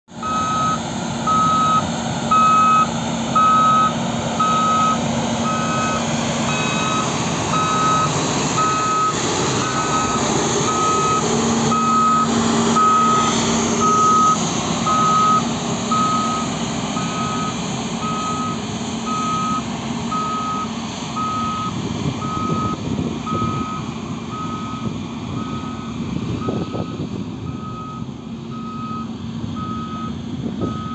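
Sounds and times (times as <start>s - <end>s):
diesel engine running steadily: 0.1s - 30.9s
reversing alarm beeping: 0.2s - 30.9s.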